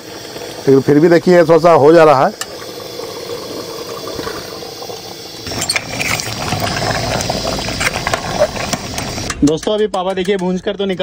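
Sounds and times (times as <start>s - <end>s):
gravy sizzling and sloshing: 0.0s - 9.3s.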